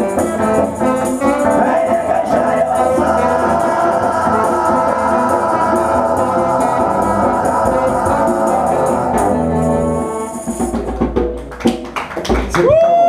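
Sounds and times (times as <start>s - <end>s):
live band music: 0.0s - 12.7s
percussive strikes: 0.2s - 12.6s.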